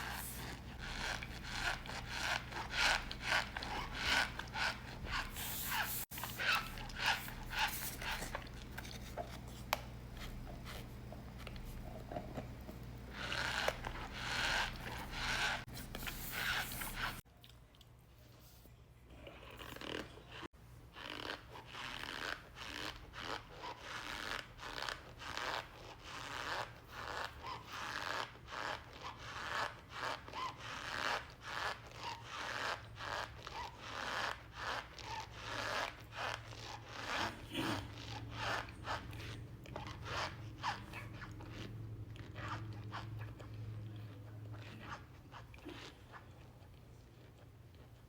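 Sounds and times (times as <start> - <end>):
cornstarch squeaking and crunching: 0.0 - 17.2, 19.7 - 47.9.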